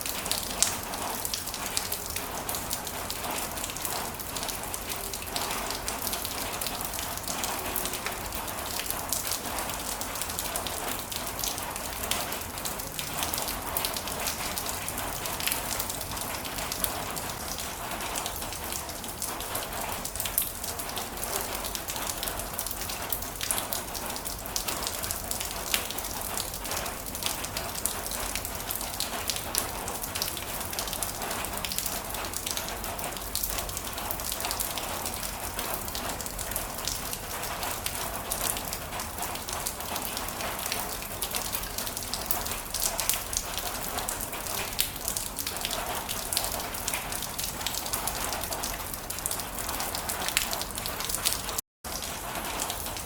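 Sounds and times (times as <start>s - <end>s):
raindrops ticking on surface: 0.0s - 53.0s.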